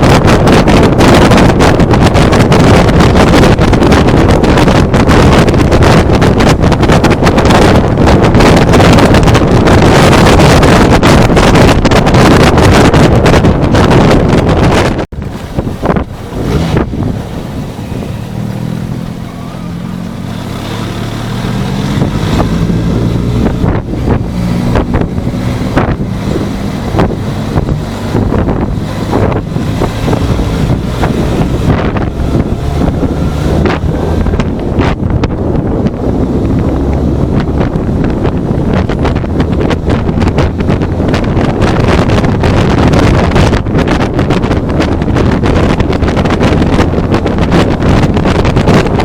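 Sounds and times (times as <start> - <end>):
motorcycle engine running: 0.0 - 49.0
wind buffeting microphone: 0.0 - 49.0.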